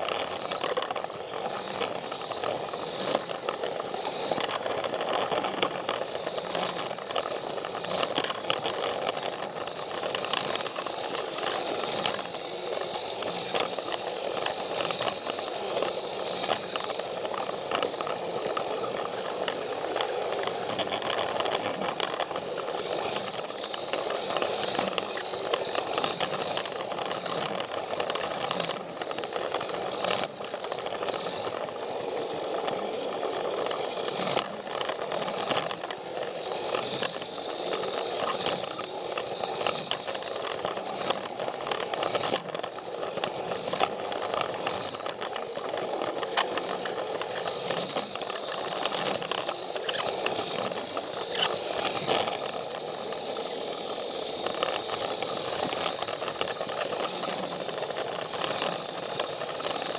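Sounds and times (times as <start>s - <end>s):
toy train motor whine: 0.0s - 59.9s
wheels rattling and clicking on track: 0.0s - 59.9s.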